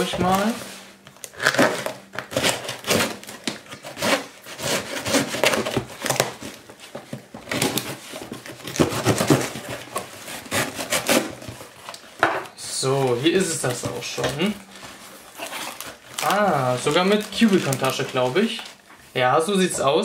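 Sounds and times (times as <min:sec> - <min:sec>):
cardboard scraping and rustling: 0:00.0 - 0:12.2, 0:12.9 - 0:18.9
packing tape tearing: 0:00.0 - 0:12.2, 0:12.9 - 0:18.9.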